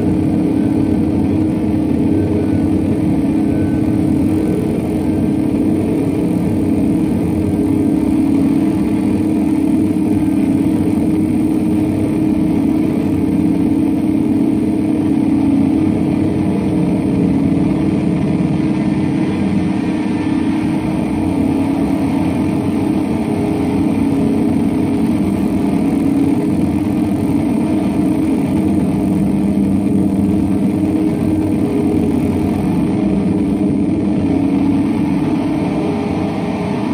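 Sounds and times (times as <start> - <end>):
noisy electric guitar drone: 0.0 - 36.9.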